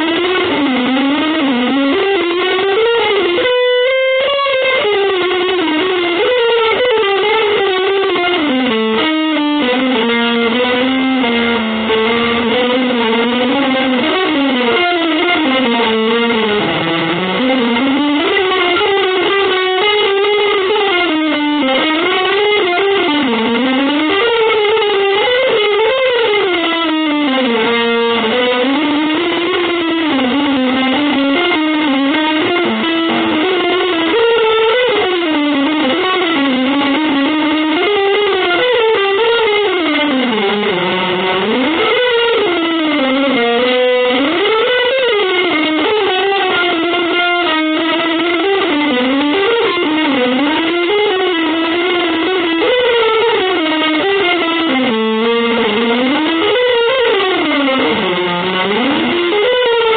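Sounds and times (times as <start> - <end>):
distorted electric guitar improvising: 0.0 - 59.9.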